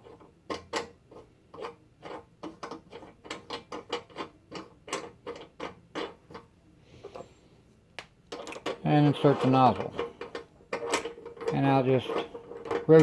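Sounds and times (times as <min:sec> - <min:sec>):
metal parts clicking and tapping: 0:00.0 - 0:06.5, 0:08.0 - 0:13.0.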